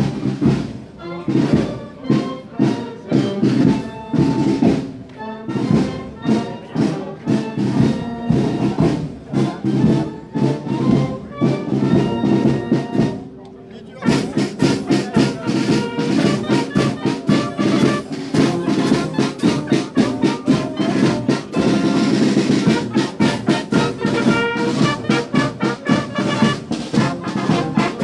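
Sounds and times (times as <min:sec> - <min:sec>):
steady drum beat: 0:00.0 - 0:13.3, 0:14.0 - 0:28.0
brass band playing: 0:00.0 - 0:28.0.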